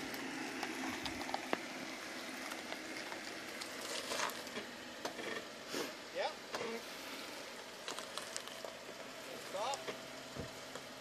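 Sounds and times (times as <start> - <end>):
engine running low: 0.0 - 11.0
noisy hiss: 0.0 - 11.0
tires clicking over rock: 0.0 - 11.0.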